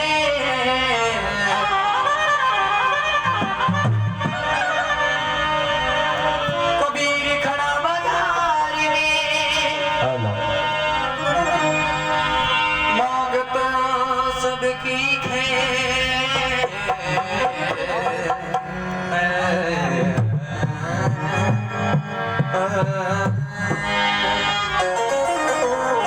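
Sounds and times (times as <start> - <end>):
melody in long held notes: 0.0 - 26.0.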